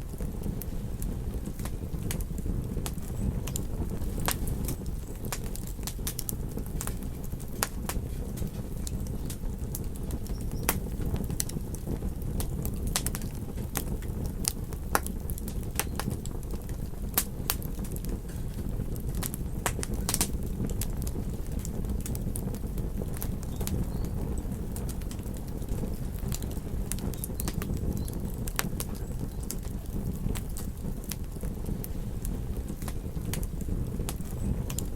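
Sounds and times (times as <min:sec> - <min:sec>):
fire popping and snapping: 0:00.0 - 0:34.9
low rumble of flames: 0:00.0 - 0:34.9.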